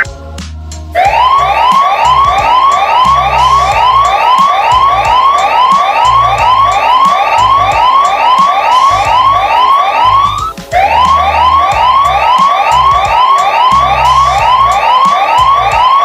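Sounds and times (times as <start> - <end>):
electronic alert siren whooping: 1.0 - 16.0.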